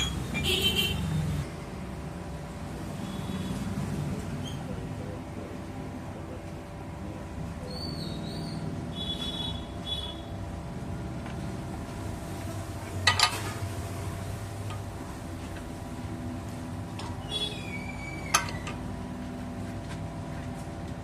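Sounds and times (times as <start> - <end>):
workshop machine humming: 0.0 - 21.0.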